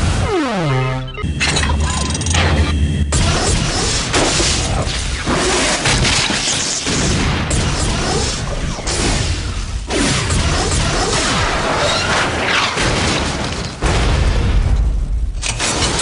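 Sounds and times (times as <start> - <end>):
cartoon battle booms and crashes: 0.0 - 16.0.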